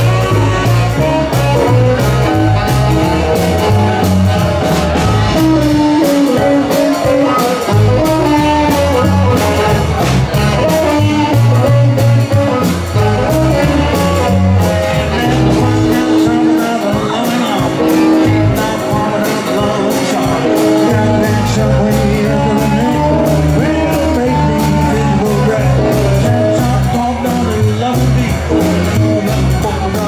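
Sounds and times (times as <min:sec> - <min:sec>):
bass line: 0:00.0 - 0:30.0
drums and cymbals: 0:00.0 - 0:30.0
guitar: 0:00.0 - 0:30.0.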